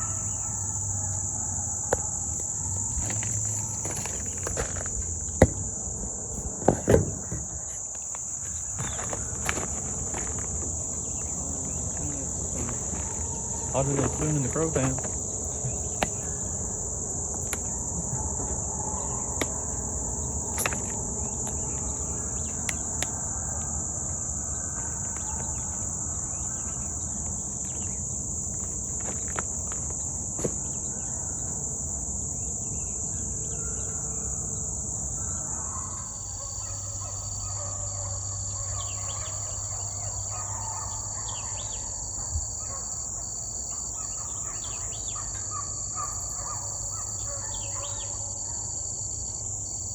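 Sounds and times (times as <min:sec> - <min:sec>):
crickets droning: 0:00.0 - 0:49.9.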